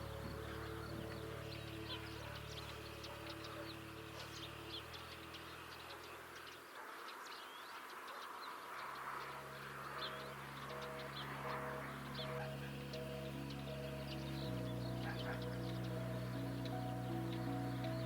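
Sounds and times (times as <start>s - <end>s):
soft background music: 0.0s - 6.7s, 8.9s - 18.0s
small birds chirping: 0.0s - 18.0s.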